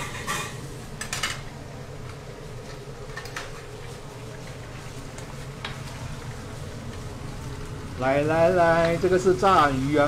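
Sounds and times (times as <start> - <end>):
range hood fan humming: 0.0 - 10.0.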